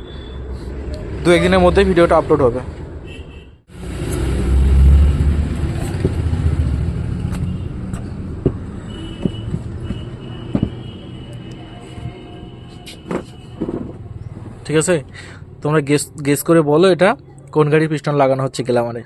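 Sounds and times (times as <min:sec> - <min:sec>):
motor vehicle rumbling: 0:00.0 - 0:17.5.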